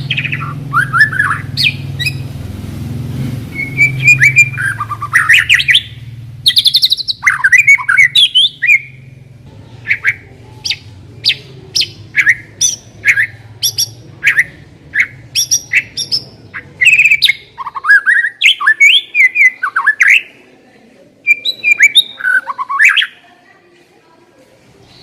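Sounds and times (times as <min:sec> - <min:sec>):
bird singing whistled notes: 0:00.0 - 0:02.3, 0:03.5 - 0:09.1, 0:09.8 - 0:20.3, 0:21.2 - 0:23.2.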